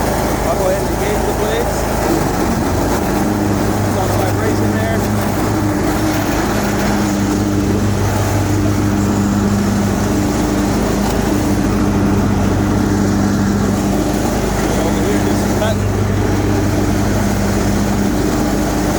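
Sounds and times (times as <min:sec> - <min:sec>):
riding mower engine hum: 0:00.0 - 0:18.9.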